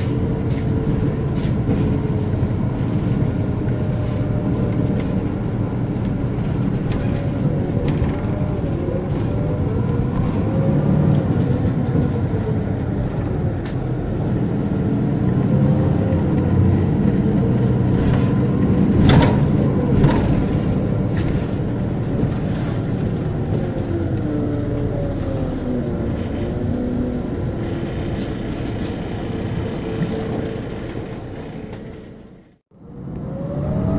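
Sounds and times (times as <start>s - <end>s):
bus diesel engine: 0.0s - 33.9s.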